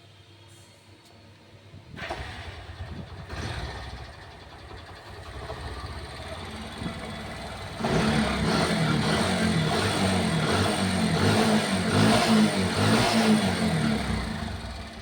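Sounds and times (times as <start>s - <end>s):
motorcycle engine revving: 2.0s - 15.0s.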